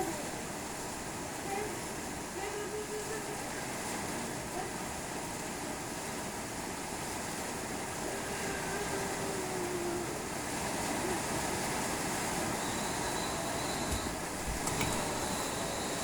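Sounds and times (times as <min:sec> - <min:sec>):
strong wind with rain: 0:00.0 - 0:16.0.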